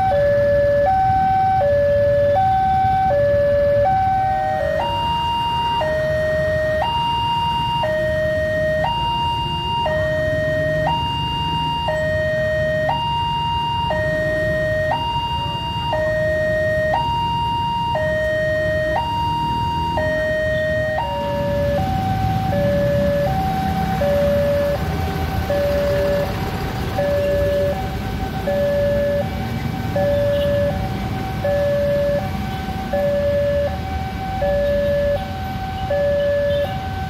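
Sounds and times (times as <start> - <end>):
level crossing alarm two-tone signal: 0.0 - 24.8, 25.5 - 26.3, 27.0 - 27.8, 28.4 - 29.3, 30.0 - 32.3, 32.9 - 37.0.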